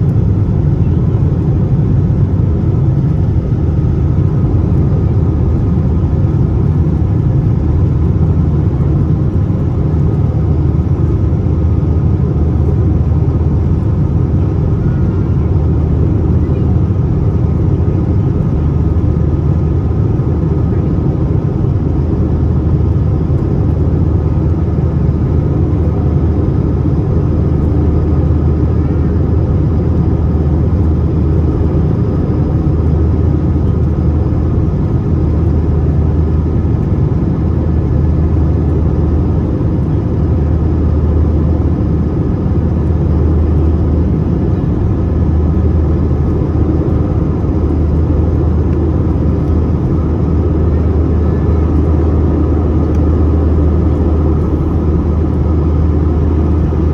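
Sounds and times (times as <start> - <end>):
deep drone: 0.0 - 56.9
jet engine and airflow roar: 0.0 - 56.9.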